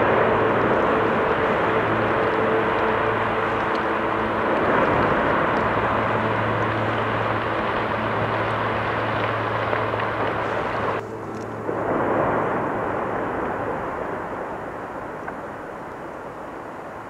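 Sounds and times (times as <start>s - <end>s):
volcanic eruption rumbling: 0.0s - 17.0s.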